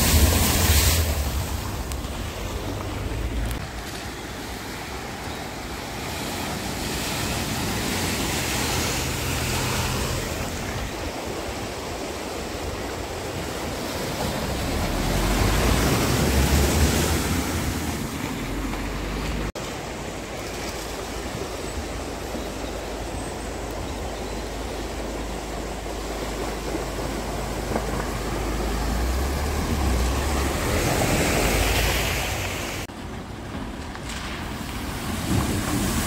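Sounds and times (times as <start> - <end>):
car splashing through water: 0.0 - 36.0
floodwater rushing: 0.0 - 36.0.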